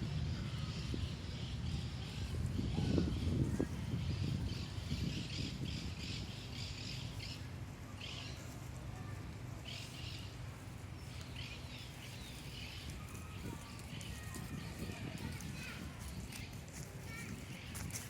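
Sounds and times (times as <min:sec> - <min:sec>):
birds chirping roughly: 0:00.0 - 0:08.7, 0:09.4 - 0:18.0.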